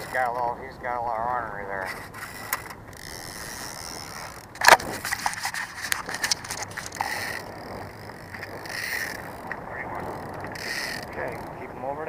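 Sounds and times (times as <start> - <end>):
gear clattering against boat: 0.0 - 12.0.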